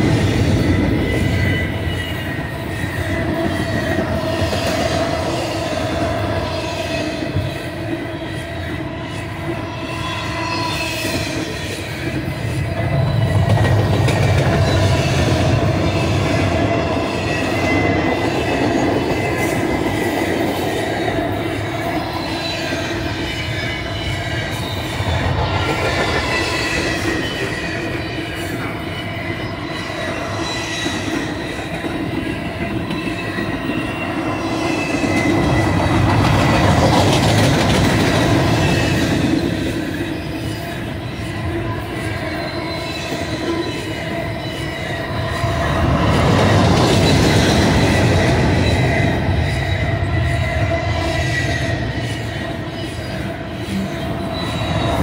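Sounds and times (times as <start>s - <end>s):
steel wheels rumbling on rail: 0.0s - 55.0s
train wheels squealing: 0.0s - 55.0s.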